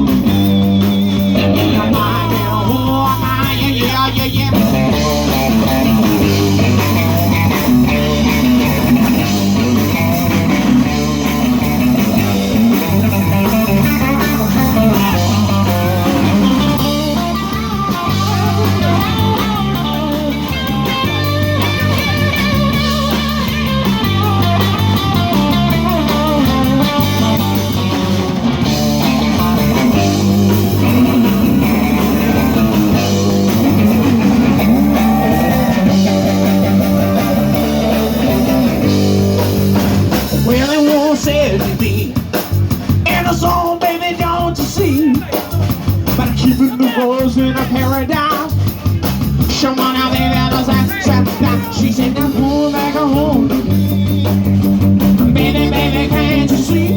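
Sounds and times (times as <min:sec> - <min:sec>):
repeating bass notes: 0:00.0 - 0:43.6, 0:44.2 - 0:56.9
drum kit: 0:00.0 - 0:56.9
electric guitar lead: 0:00.0 - 0:56.9.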